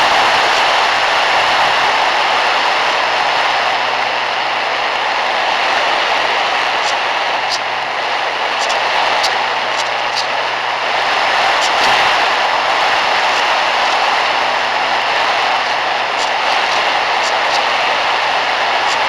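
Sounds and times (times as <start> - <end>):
model airplane motor rushing: 0.0 - 19.0.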